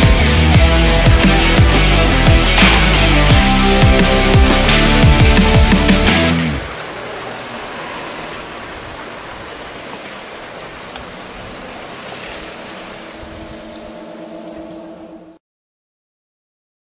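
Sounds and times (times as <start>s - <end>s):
rushing noise: 0.0s - 15.4s.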